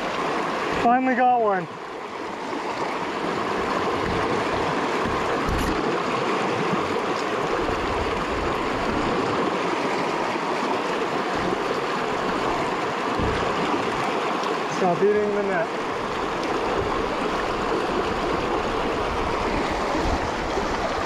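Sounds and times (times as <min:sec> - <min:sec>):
stream babbling over rocks: 0:00.0 - 0:21.0.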